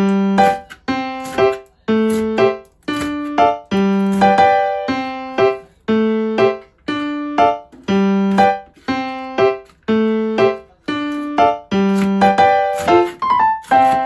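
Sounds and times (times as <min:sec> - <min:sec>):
electric piano notes: 0:00.0 - 0:14.0.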